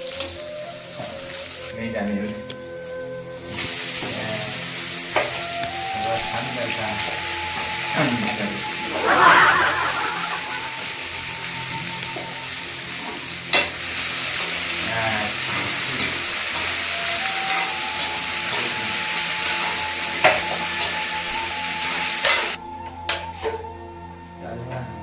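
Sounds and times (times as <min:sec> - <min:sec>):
okra sizzling in a pan: 0:00.0 - 0:22.6.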